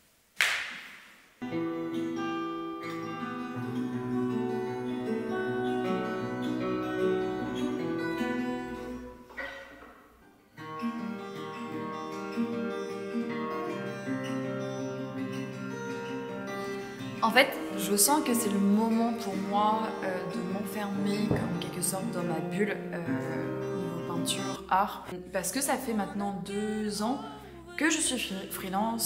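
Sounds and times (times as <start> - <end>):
acoustic guitar music: 1.4 - 29.0.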